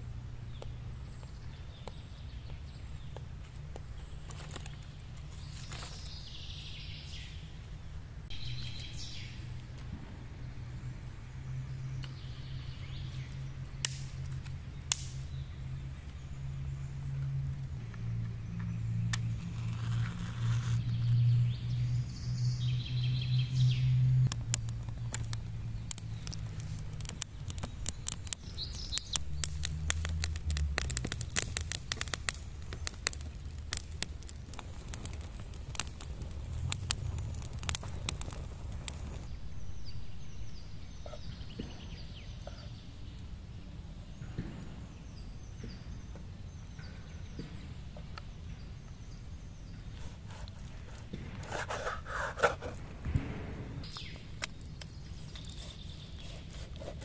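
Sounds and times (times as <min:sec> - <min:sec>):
kindling crackling in fire: 0:00.0 - 0:57.0
birds chirping: 0:08.3 - 0:09.8, 0:10.4 - 0:57.0.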